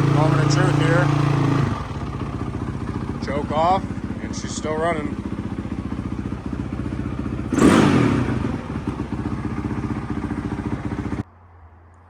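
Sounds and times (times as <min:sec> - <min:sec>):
dirt bike engine idling: 0:00.0 - 0:11.2.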